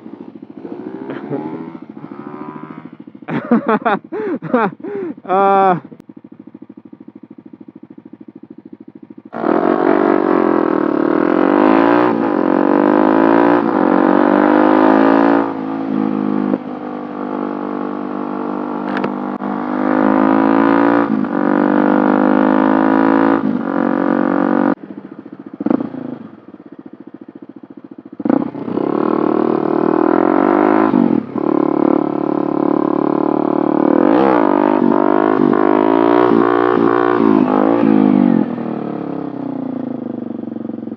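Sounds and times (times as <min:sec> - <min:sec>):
small motorcycle engine revving: 0:00.0 - 0:05.8, 0:09.3 - 0:24.8, 0:25.6 - 0:26.4, 0:28.1 - 0:40.9.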